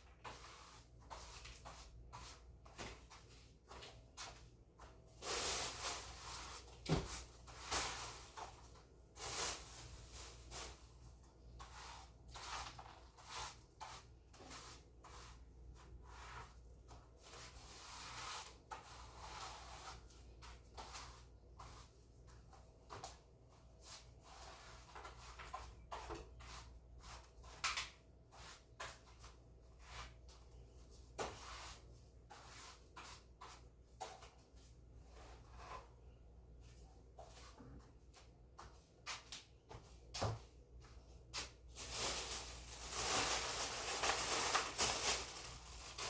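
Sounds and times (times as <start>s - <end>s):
broom sweeping the floor: 0.0s - 46.0s.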